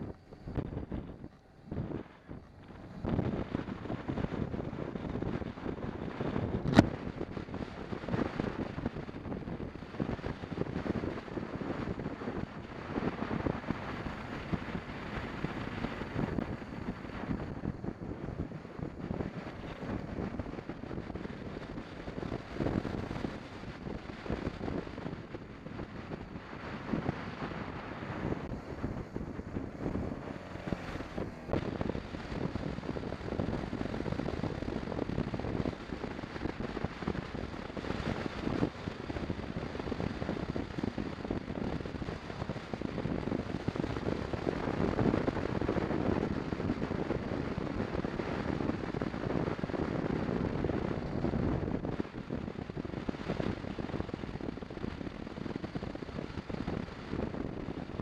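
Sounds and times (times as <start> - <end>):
motorcycle engine: 0.0 - 47.6
wind rushing over microphone: 0.0 - 58.0.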